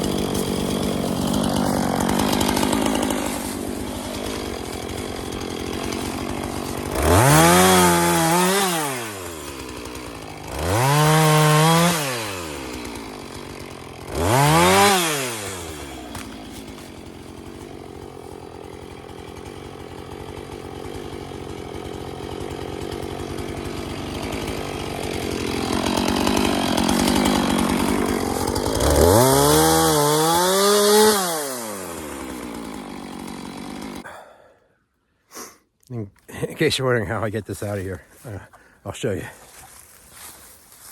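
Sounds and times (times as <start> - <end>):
chainsaw engine revving: 0.0 - 34.4.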